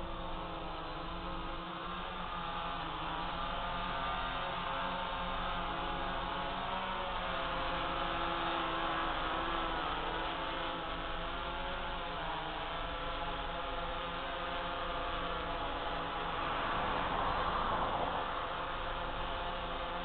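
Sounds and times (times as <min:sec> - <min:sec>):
drone rotors humming: 0:00.0 - 0:20.0.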